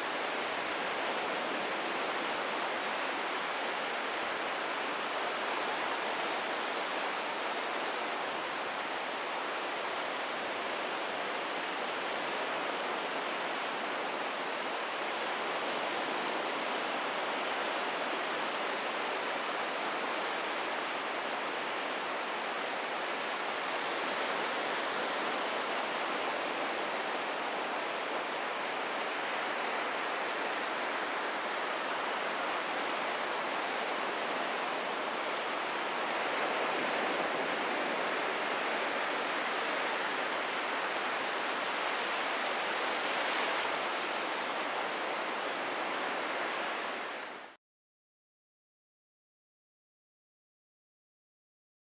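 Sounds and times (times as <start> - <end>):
ocean surf washing on beach: 0.0 - 47.6.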